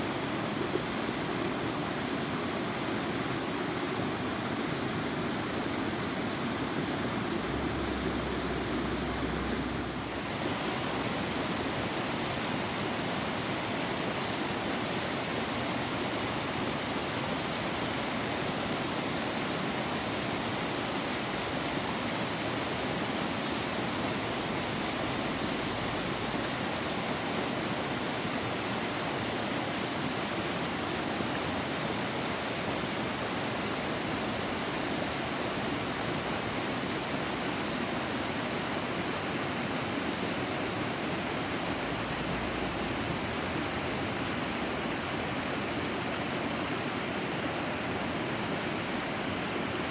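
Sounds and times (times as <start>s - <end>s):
creek rushing over rocks: 0.0s - 49.9s.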